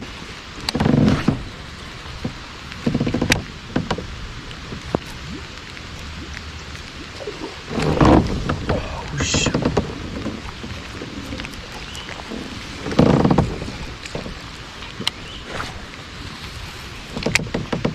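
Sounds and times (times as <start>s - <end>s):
rain pattering: 0.0s - 17.9s.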